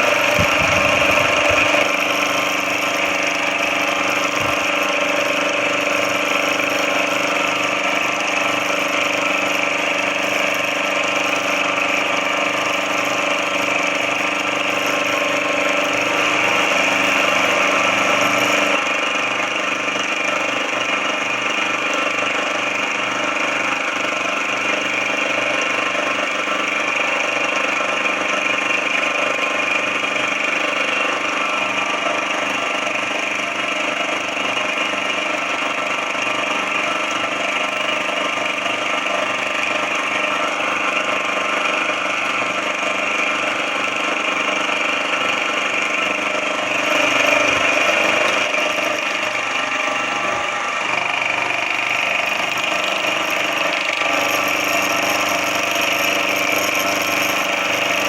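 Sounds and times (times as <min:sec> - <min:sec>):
machine tool motor whine: 0:00.0 - 0:58.0.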